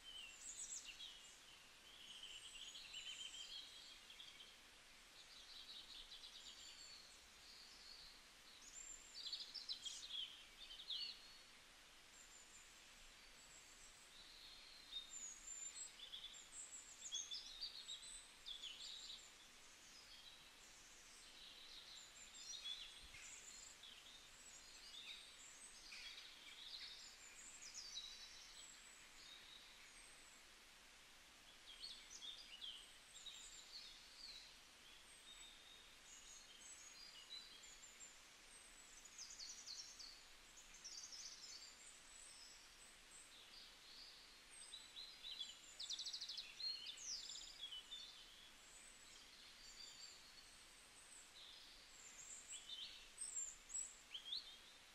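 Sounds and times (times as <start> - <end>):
faint birds chirping and trilling: 0.0 - 54.9.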